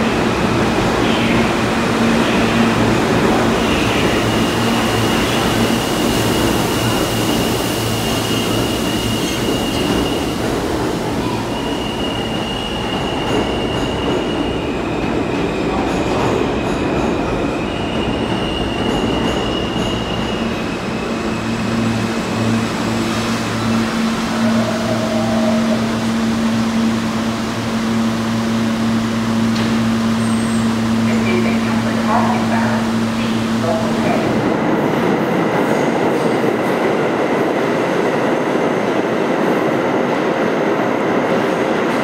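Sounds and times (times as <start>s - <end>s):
subway train rumble: 0.0s - 42.0s.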